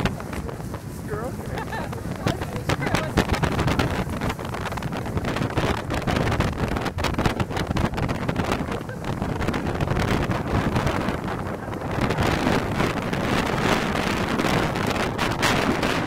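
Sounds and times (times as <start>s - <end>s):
low rumble: 0.0s - 16.0s
wind buffeting microphone: 0.0s - 16.0s.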